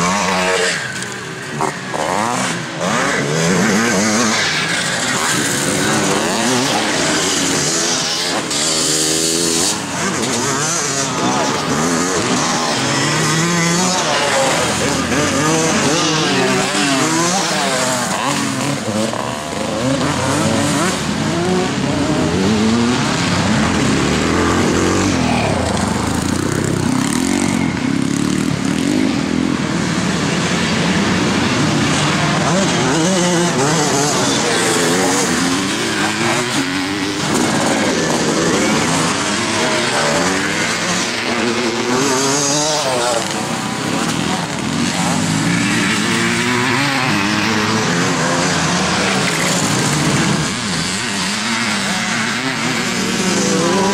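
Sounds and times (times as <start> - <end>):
motorcycles racing past revving: 0.0 - 53.9.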